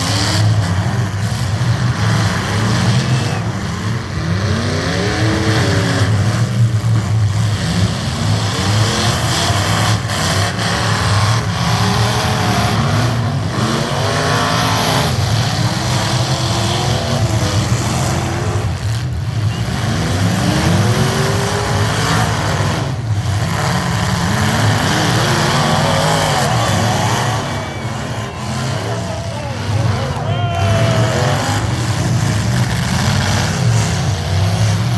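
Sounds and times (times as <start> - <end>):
heavy truck engines revving: 0.0 - 34.9.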